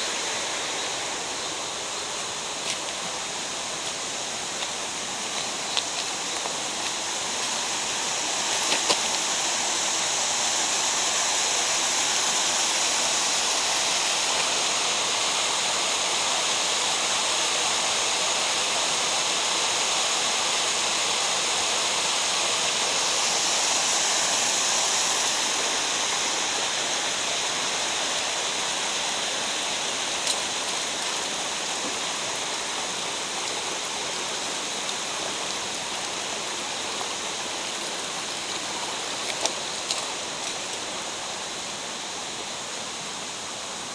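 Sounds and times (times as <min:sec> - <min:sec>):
mountain stream rushing: 0:00.0 - 0:43.9.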